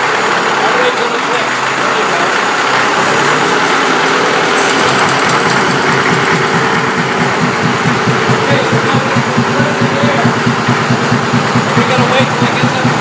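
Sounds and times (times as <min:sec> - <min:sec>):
air compressor chugging: 0:00.0 - 0:13.0
gasoline engine running: 0:00.0 - 0:13.0.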